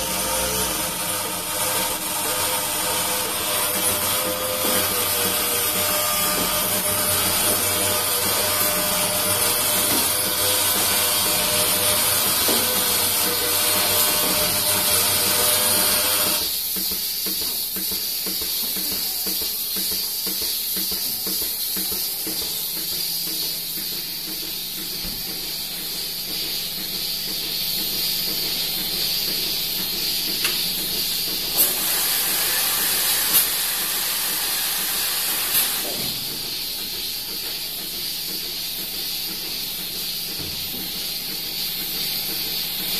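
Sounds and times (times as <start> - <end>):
vacuum and air hissing: 0.0 - 42.9.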